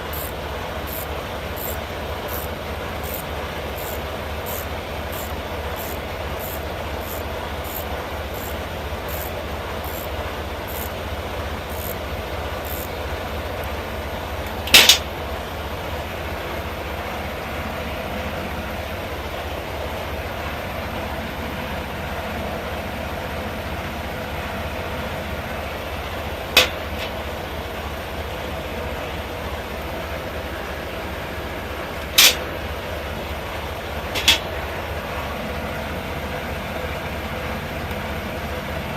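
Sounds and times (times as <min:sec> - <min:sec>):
mechanical running hum: 0:00.0 - 0:38.9.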